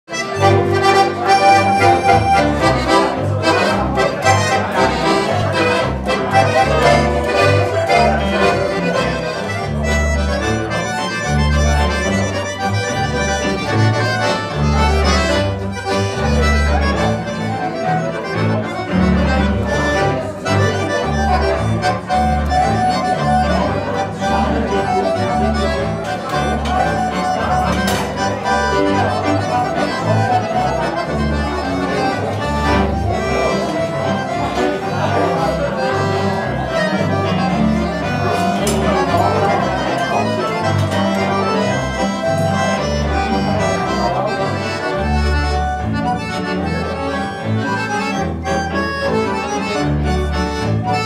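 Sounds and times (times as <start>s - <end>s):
accordions playing dance tune: 0.0s - 51.0s
double bass notes: 0.1s - 51.0s.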